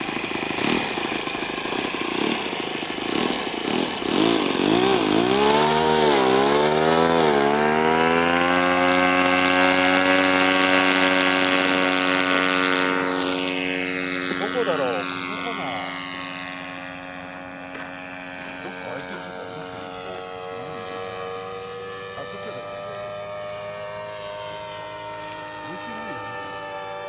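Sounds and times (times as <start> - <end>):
model airplane engine revving: 0.0 - 27.0.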